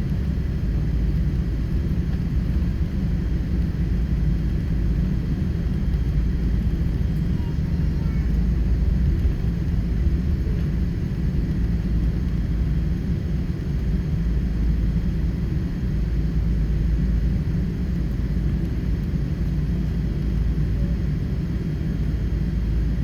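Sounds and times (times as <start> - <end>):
airliner cabin engine rumble: 0.0 - 23.0.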